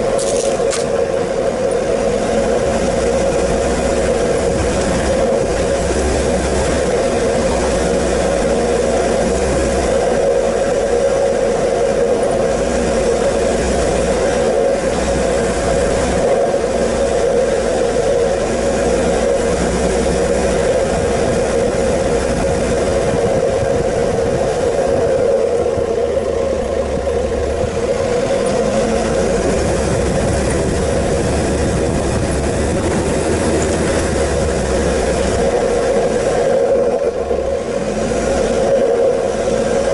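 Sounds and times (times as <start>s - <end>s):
continuous low rumble: 0.0s - 39.9s
vehicle engine running: 0.0s - 39.9s.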